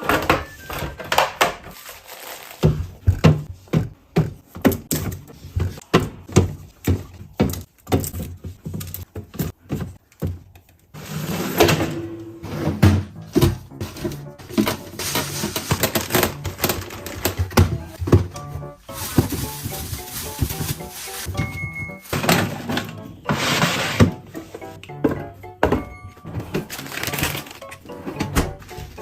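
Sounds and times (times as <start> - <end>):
kitchen items knocking and clicking: 0.0 - 29.0.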